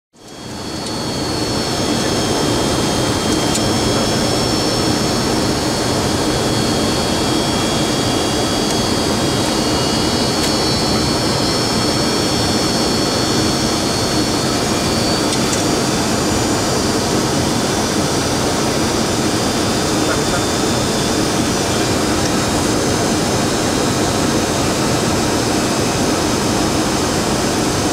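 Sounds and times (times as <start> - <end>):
air rushing around cockpit: 0.2 - 27.9
high-pitched whines: 0.2 - 27.9
jet engines droning: 0.2 - 27.9.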